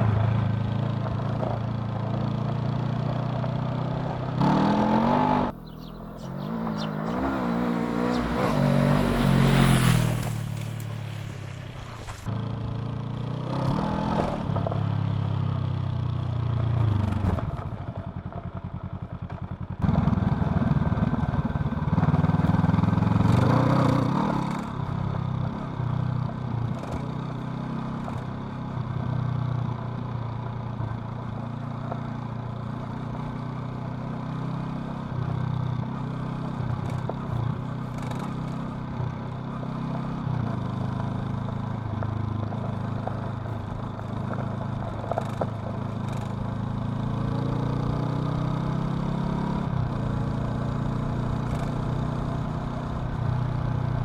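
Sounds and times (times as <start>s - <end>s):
motorcycle engine running: 0.0s - 11.6s, 12.3s - 54.0s.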